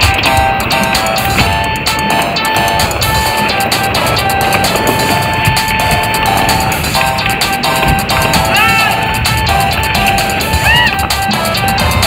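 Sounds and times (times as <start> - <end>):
melody over a beat: 0.0 - 12.0.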